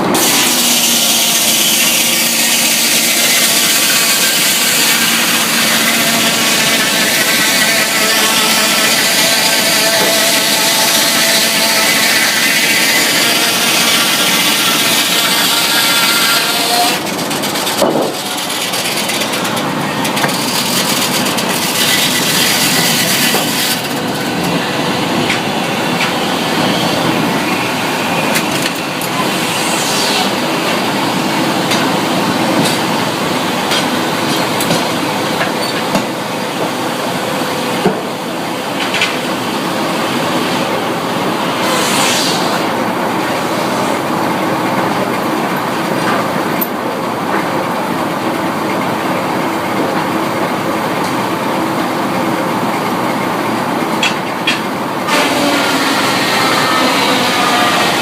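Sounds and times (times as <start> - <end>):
sawmill machinery sawing wood: 0.0 - 58.0.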